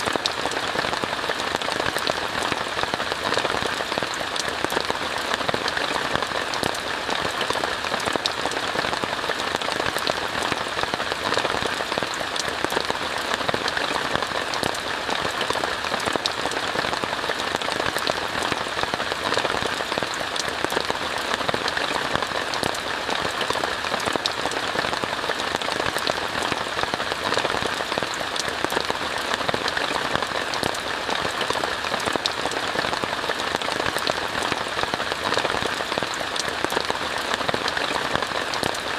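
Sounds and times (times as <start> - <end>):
rain on a tent: 0.0 - 38.9.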